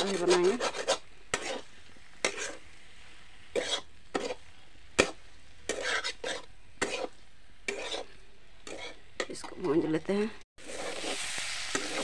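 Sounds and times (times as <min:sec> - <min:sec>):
metal spatula scraping pan: 0:00.0 - 0:02.8, 0:03.5 - 0:09.9, 0:10.6 - 0:12.0
low sizzle of frying: 0:00.0 - 0:12.0.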